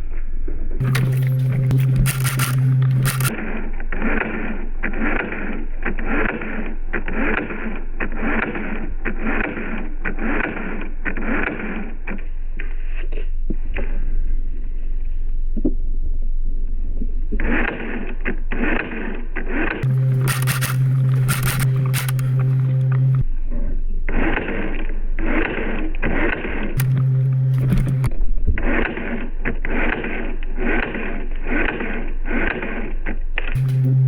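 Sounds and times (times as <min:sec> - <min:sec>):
low-pitched mechanical clatter: 0:00.0 - 0:34.0.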